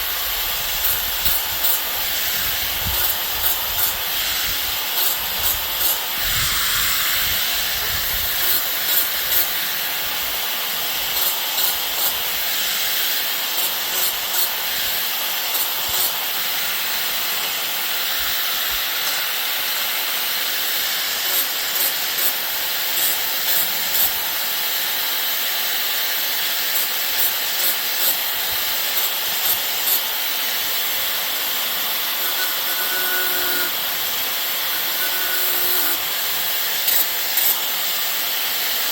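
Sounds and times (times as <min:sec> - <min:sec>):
welding arc sizzling: 0:00.0 - 0:38.9.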